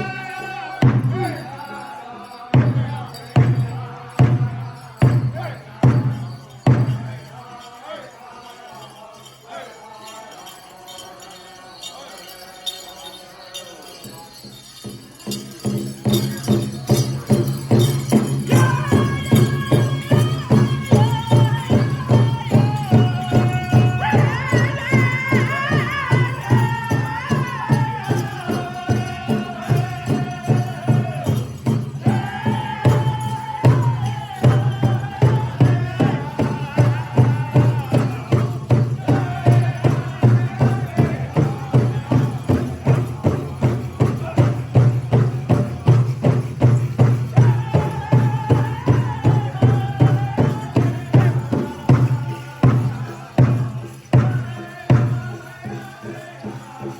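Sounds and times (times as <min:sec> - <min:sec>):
group singing: 0:00.0 - 0:14.3, 0:15.2 - 0:56.9.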